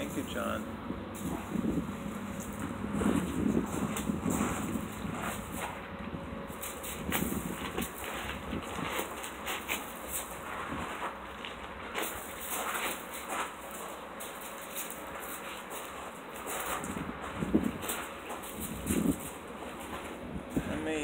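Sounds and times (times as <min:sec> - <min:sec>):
gravel crunching: 0:00.0 - 0:21.0.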